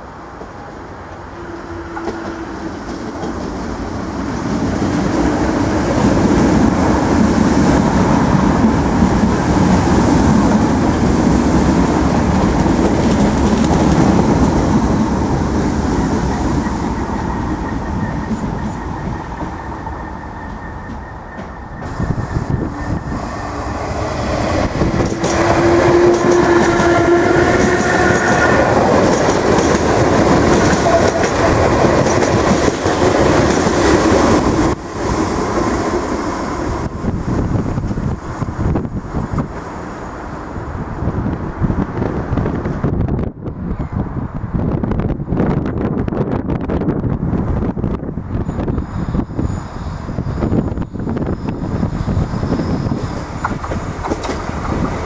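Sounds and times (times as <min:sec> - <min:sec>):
electric train running past: 0:00.0 - 0:55.0.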